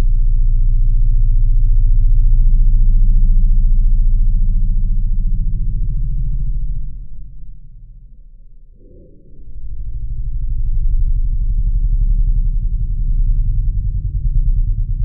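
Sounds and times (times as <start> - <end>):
loud low fluttering hum: 0.0 - 15.0.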